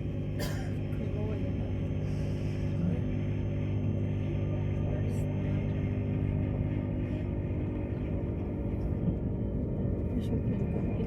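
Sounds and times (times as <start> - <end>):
train running hum inside carriage: 0.0 - 11.0.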